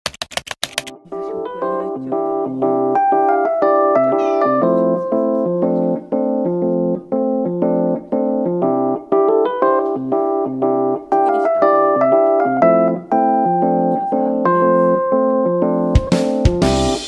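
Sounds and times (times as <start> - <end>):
electric piano tune: 0.8 - 17.0.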